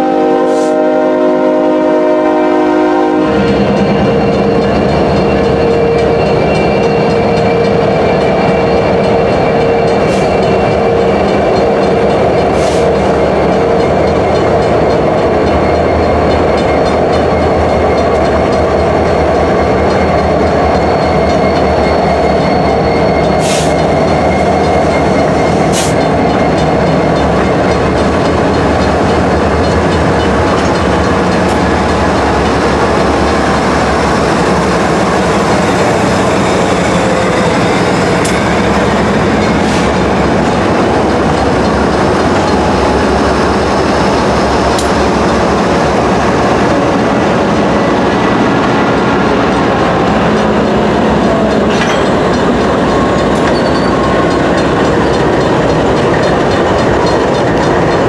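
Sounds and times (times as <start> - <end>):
diesel locomotives rumbling past: 0.0 - 58.0.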